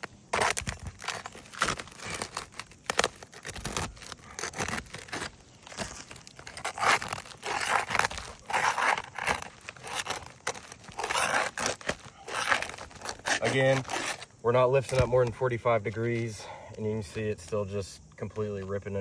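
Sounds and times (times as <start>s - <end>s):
roof shingles tearing and scraping: 0.0s - 16.3s.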